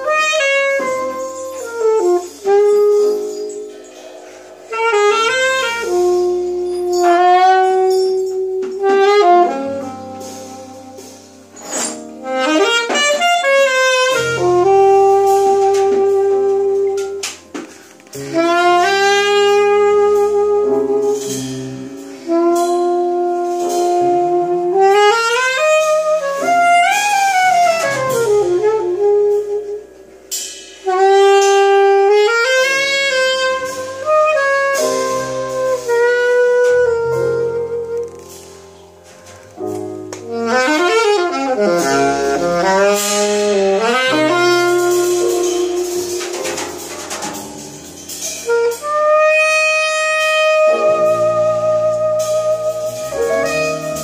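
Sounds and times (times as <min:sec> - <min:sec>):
alto saxophone melody: 0:00.0 - 0:30.1, 0:30.8 - 0:54.0
jazz ballad: 0:00.0 - 0:54.0.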